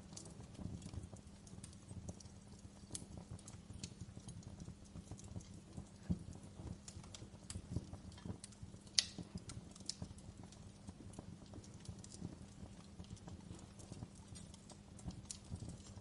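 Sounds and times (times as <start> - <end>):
low steady hum: 0.0 - 16.0
wood fire crackling: 0.0 - 16.0.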